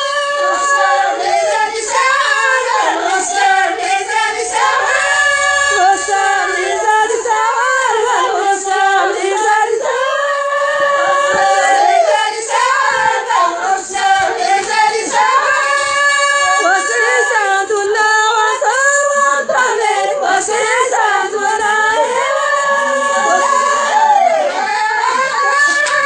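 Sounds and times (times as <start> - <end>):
high voice singing: 0.0 - 26.0.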